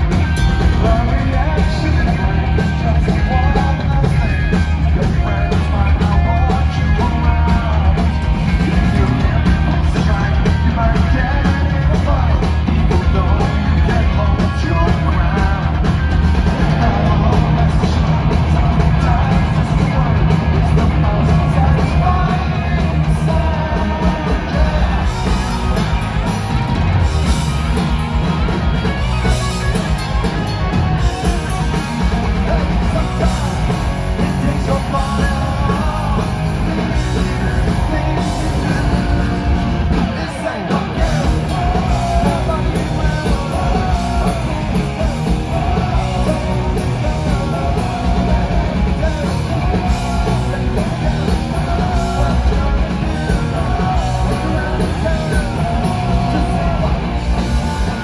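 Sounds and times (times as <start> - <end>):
punk rock band playing live: 0.0 - 58.0.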